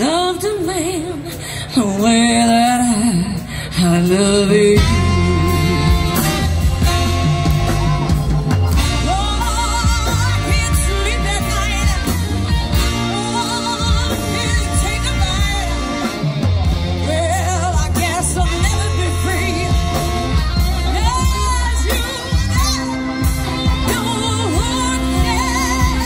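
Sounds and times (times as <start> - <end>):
woman singing with vibrato: 0.0 - 7.3, 8.9 - 16.2, 17.0 - 26.0
live pop-rock band: 0.0 - 26.0
saxophone section: 4.6 - 26.0.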